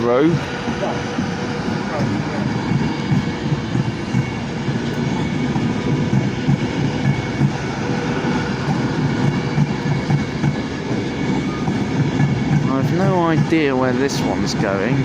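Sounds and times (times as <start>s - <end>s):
train rumbling along tracks: 0.0s - 15.0s.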